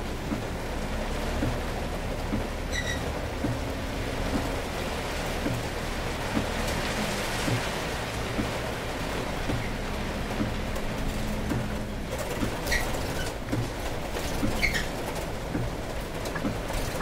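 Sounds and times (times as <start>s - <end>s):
bus engine droning: 0.0s - 17.0s
heavy rain drumming on bus: 0.0s - 17.0s
windscreen wipers thumping: 0.0s - 17.0s.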